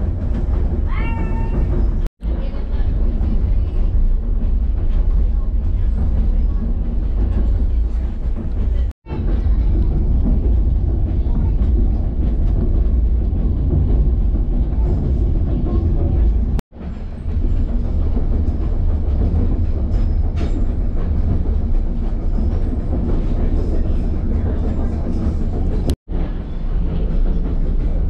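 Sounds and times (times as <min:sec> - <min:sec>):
train coach rumbling on track: 0:00.0 - 0:28.0.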